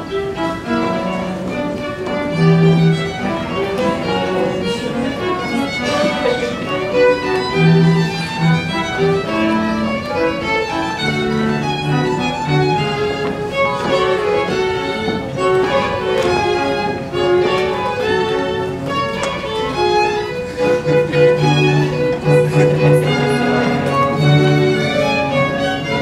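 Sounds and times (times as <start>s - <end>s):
violin and strings melody: 0.0s - 26.0s.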